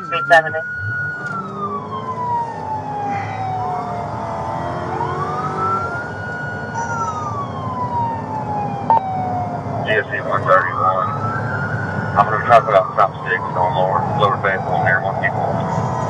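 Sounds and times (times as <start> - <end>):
car engine and road noise: 0.0 - 16.0
police siren wailing: 0.0 - 16.0.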